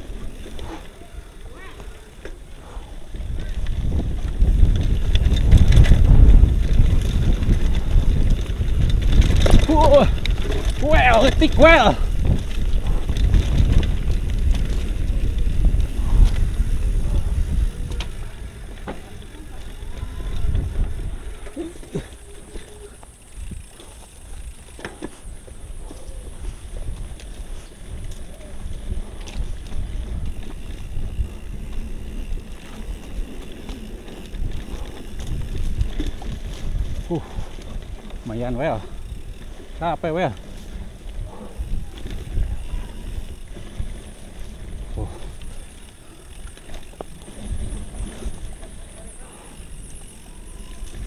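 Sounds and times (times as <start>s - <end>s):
bicycle clicks and rattles: 0.0s - 51.0s
wind buffeting microphone: 2.4s - 51.0s.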